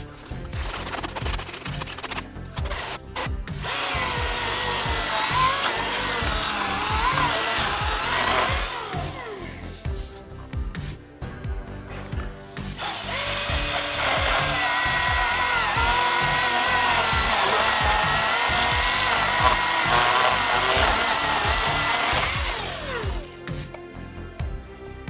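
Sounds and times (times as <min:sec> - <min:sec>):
electric chainsaw whining: 0:00.0 - 0:09.5, 0:12.8 - 0:23.5
background music with steady beat: 0:00.0 - 0:25.0.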